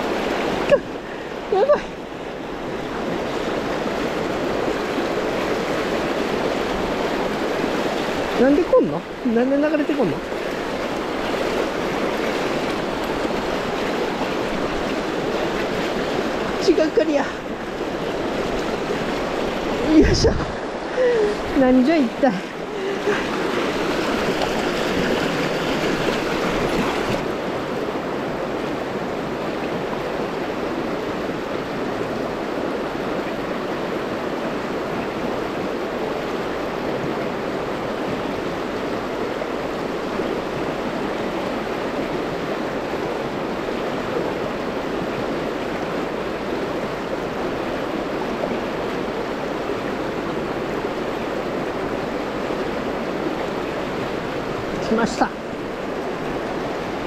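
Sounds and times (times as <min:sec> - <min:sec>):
river rapids rushing: 0:00.0 - 0:57.0.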